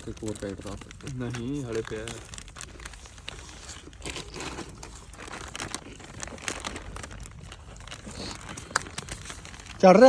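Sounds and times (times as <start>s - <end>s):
crinkling and rustling: 0.0s - 10.0s.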